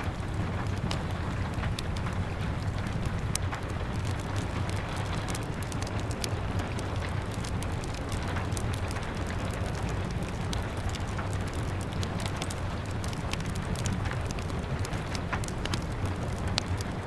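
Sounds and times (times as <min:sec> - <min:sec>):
rain pattering on a window: 0:00.0 - 0:17.0
wood fire crackling: 0:00.0 - 0:17.0.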